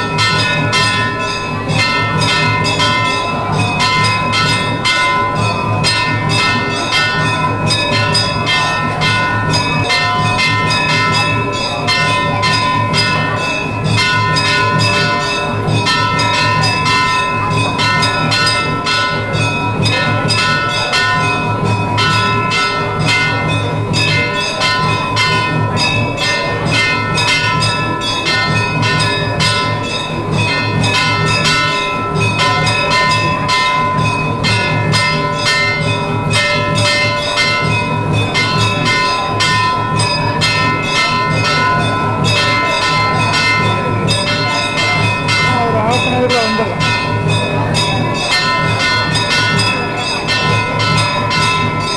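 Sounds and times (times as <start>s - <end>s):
temple bells clanging: 0.0s - 51.9s.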